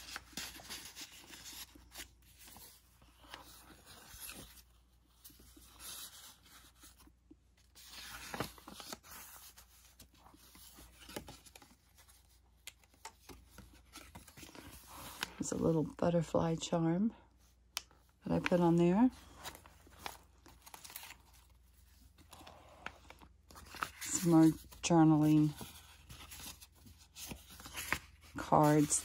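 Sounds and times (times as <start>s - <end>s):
paper pages rustling: 0.0s - 15.7s, 18.3s - 29.0s.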